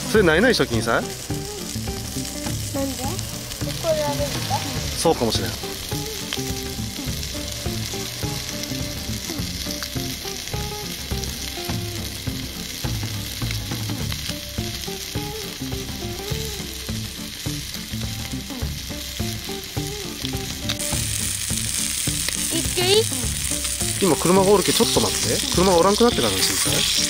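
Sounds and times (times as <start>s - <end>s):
food sizzling in a skillet: 0.0s - 27.0s.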